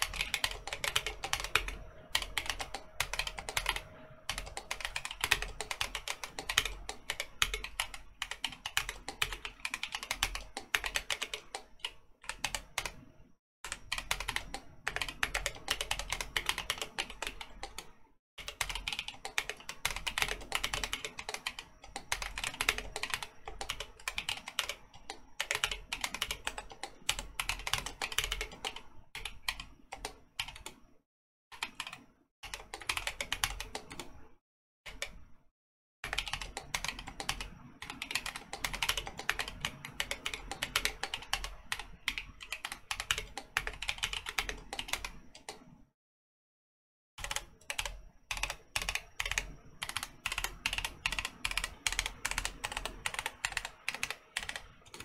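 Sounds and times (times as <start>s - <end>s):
mechanical keyboard typing: 0.0s - 13.1s, 13.7s - 30.8s, 31.6s - 34.3s, 34.9s - 35.3s, 36.0s - 45.8s, 47.2s - 55.0s.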